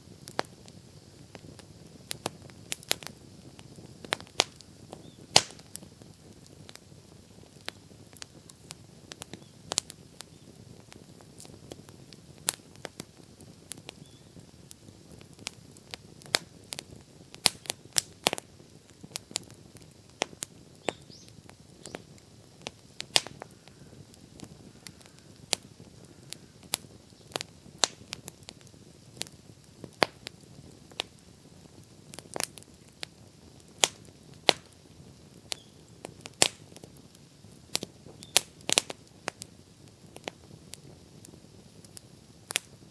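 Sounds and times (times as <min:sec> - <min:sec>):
campfire crackling and popping: 0:00.0 - 0:42.9
faint low hiss: 0:00.0 - 0:42.9.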